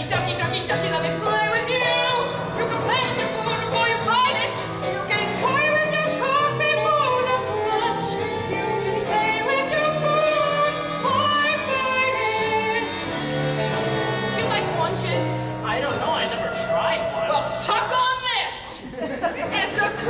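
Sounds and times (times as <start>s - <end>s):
instrumental accompaniment: 0.0s - 18.1s.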